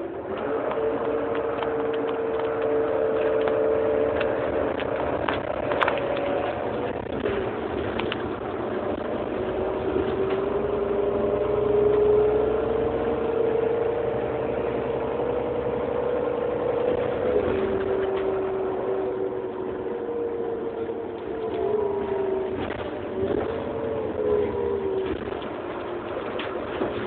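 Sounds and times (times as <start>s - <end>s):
bus engine whining: 0.0s - 27.0s.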